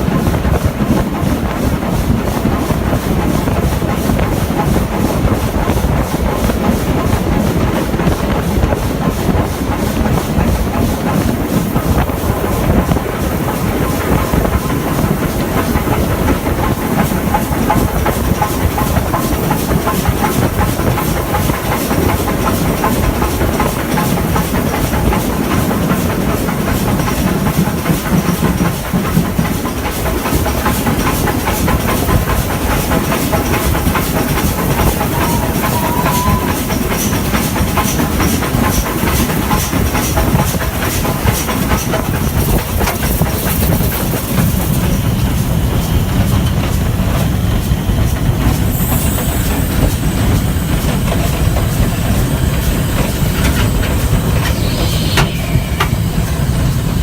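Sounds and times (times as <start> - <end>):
steam locomotive running: 0.0 - 57.0.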